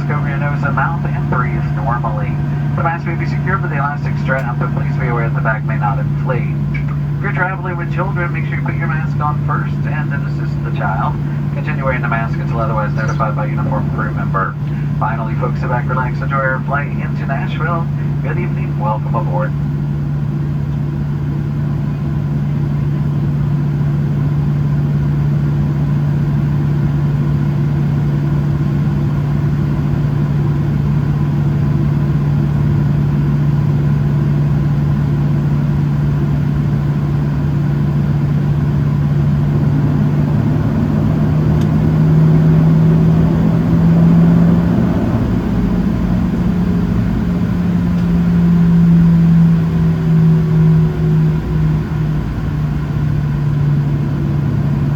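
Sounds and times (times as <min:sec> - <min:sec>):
jet engines humming in cabin: 0:00.0 - 0:54.9.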